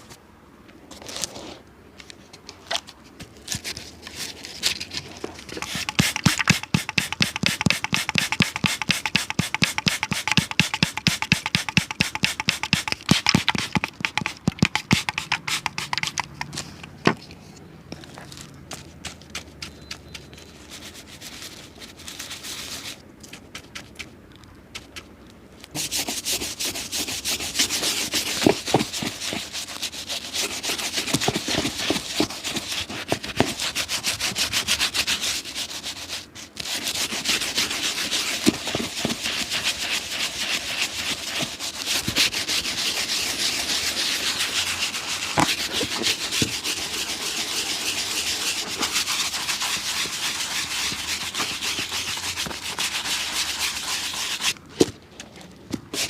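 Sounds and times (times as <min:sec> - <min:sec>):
scrubbing strokes on a shoe: 0:05.4 - 0:16.6, 0:18.8 - 0:24.2, 0:24.8 - 0:54.6.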